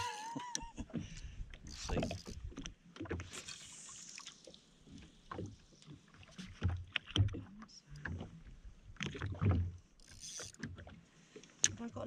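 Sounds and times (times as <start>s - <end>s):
water slapping against hull: 0.0s - 12.0s.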